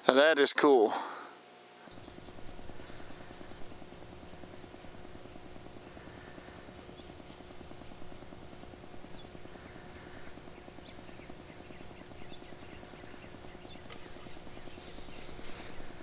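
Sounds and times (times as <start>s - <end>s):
low electronic hum: 1.4s - 16.0s
soft high ticks and chirps: 1.8s - 16.0s.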